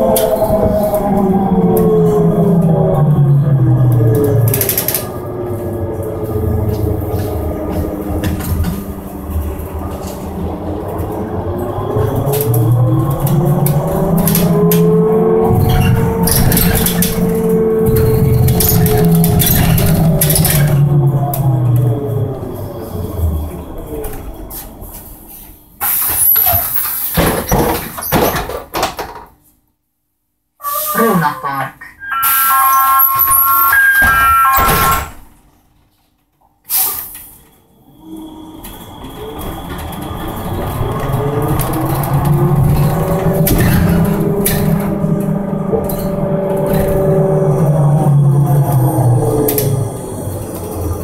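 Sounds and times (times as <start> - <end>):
trolleybus running noise: 0.0 - 28.4, 36.7 - 51.0.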